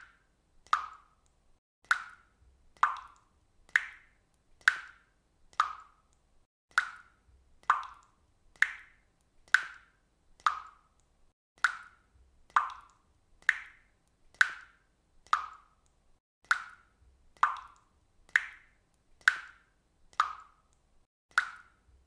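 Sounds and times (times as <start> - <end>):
faucet dripping water: 0.0 - 22.0.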